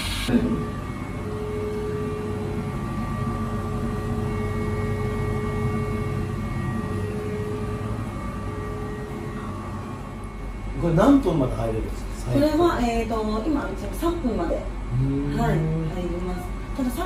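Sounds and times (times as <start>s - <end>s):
machine hum with whining tones: 0.0s - 17.0s.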